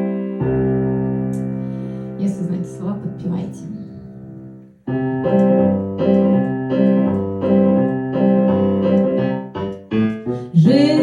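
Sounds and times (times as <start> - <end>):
low piano bass line: 0.0 - 11.0
piano chords: 0.0 - 11.0.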